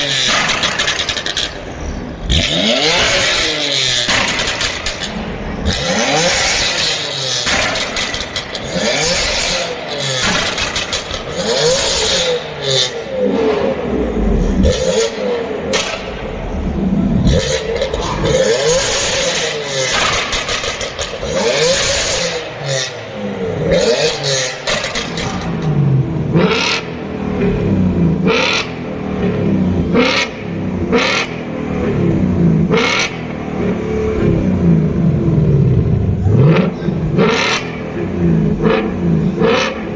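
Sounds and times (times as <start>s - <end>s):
sharp exhaust cracks: 0.0s - 39.9s
sports car engines revving: 0.0s - 39.9s.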